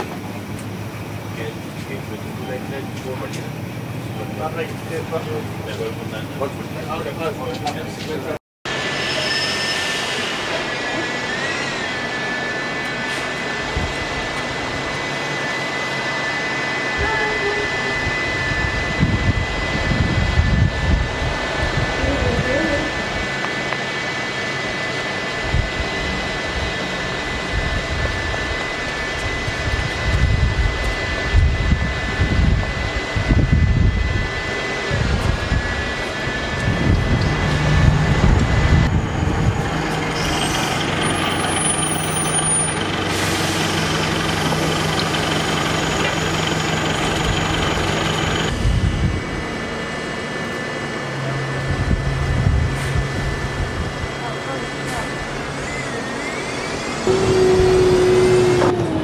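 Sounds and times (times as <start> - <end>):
bus engines running: 0.0 - 9.2, 10.0 - 59.0
traffic noise: 0.0 - 59.0.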